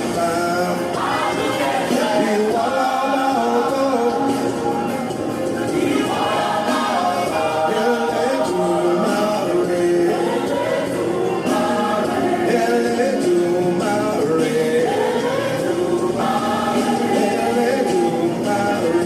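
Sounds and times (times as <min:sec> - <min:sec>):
gospel choir singing: 0:00.0 - 0:19.0.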